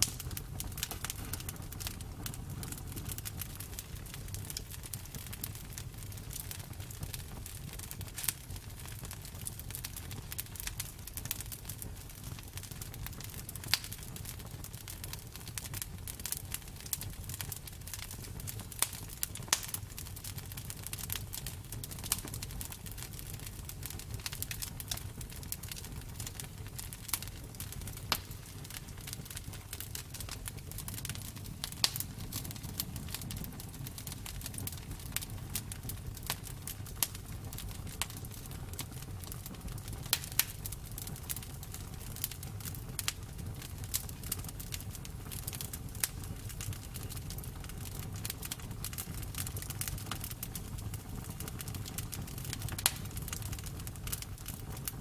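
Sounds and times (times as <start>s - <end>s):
bonfire crackling and popping: 0.0s - 55.0s
low rumble of burning: 0.0s - 55.0s.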